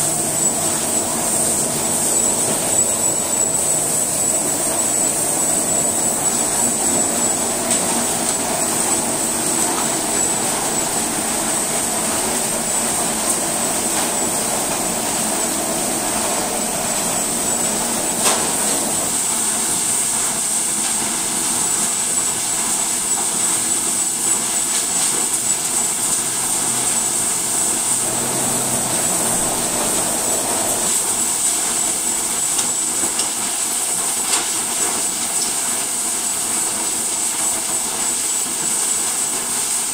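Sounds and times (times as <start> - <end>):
processing machinery din: 0.0 - 34.1
high-pitched machine whine: 0.0 - 39.9.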